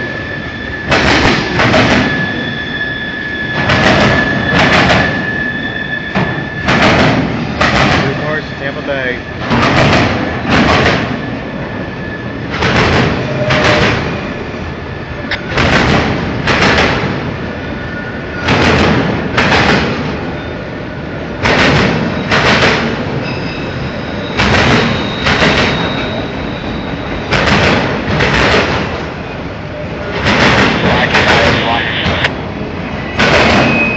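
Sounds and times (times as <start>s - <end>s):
train wheels clacking: 0.0s - 11.5s, 12.4s - 14.4s, 15.2s - 17.4s, 18.3s - 20.4s, 21.4s - 29.2s, 30.0s - 32.2s
rail rumble: 0.0s - 33.9s.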